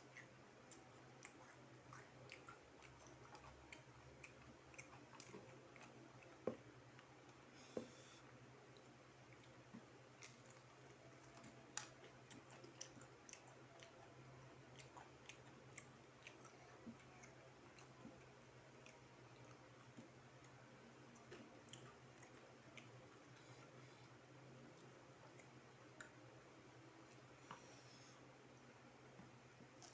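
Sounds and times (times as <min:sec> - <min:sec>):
chewing crispy fried chicken: 0:00.0 - 0:07.5, 0:08.3 - 0:27.8.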